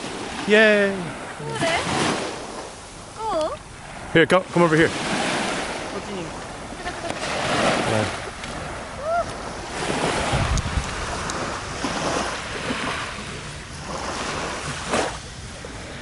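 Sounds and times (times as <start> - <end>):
small waves breaking on shore: 0.0 - 16.0
wind buffeting microphone: 0.0 - 16.0.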